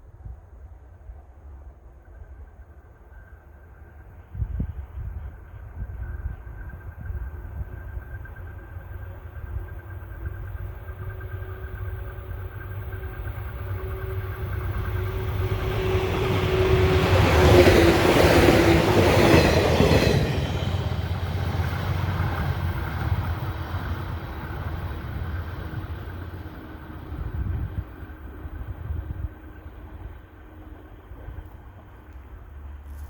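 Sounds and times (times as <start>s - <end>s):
electric train passing: 1.4s - 32.8s.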